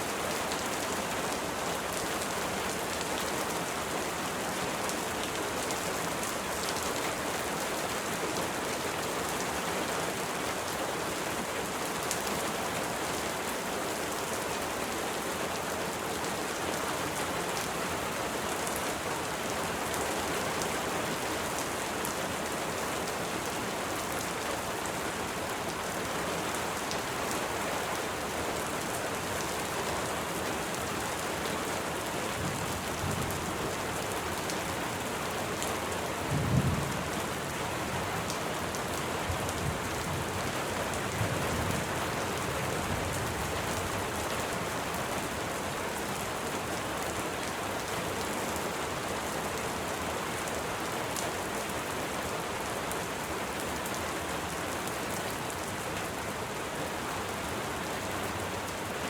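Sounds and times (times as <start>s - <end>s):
rain pattering on a surface: 0.0s - 59.0s.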